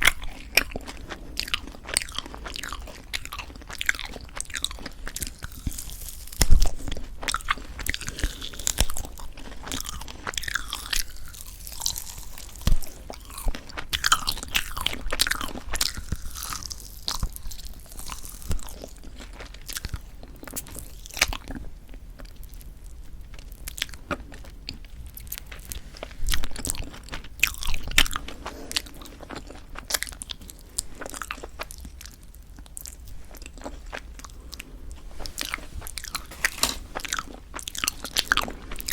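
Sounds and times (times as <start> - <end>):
biting and chewing marshmallow: 0.0 - 38.9.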